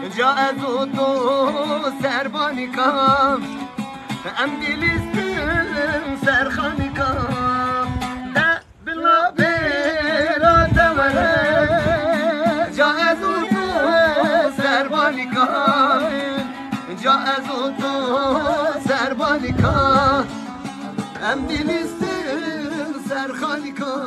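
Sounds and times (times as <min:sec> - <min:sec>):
long-necked lute folk melody: 0:00.0 - 0:24.0.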